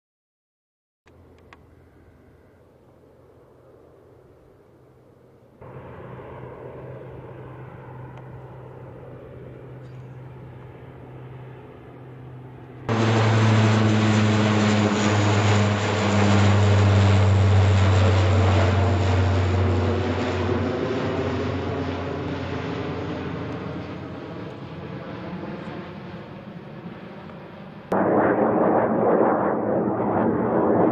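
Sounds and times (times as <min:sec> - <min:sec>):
turboprop aircraft propeller drone: 0:01.1 - 0:30.9.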